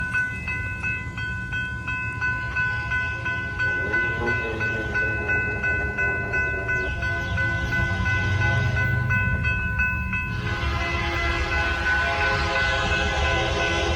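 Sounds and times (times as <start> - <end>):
freight train rumble: 0.0 - 13.9.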